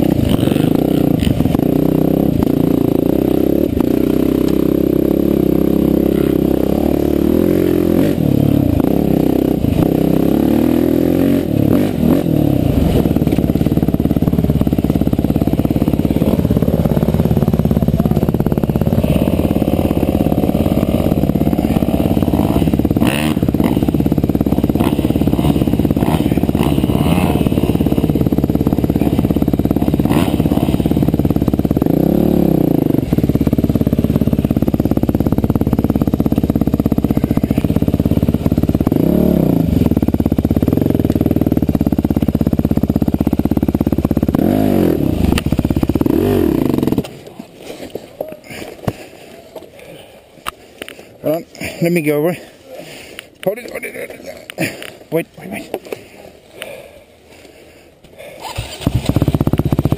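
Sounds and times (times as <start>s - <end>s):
motorcycle engine revving: 0.0s - 47.8s, 58.2s - 59.9s.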